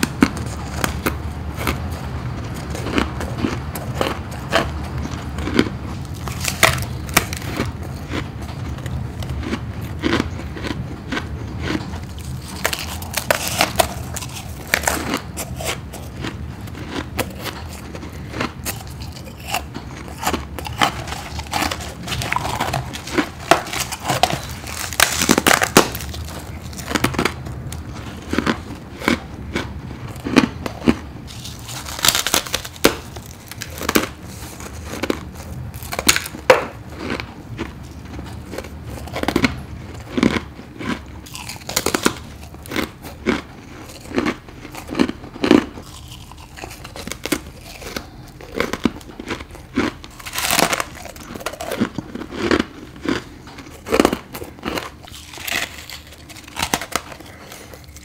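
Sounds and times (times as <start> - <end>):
crunching ice: 0.0 - 58.0
steady low hum: 0.0 - 58.0.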